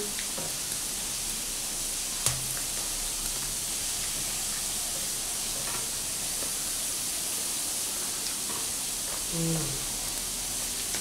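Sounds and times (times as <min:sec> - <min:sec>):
squid sizzling on a grill: 0:00.0 - 0:11.0.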